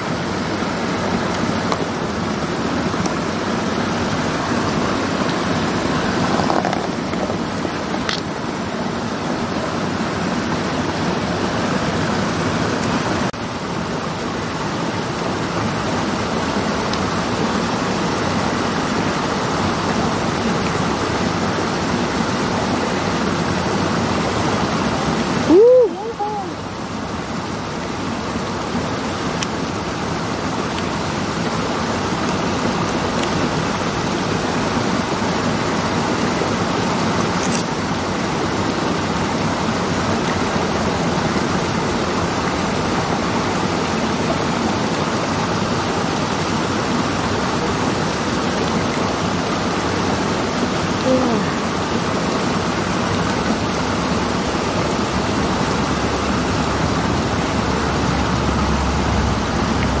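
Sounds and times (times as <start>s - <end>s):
river water rushing over rocks: 0.0s - 60.0s.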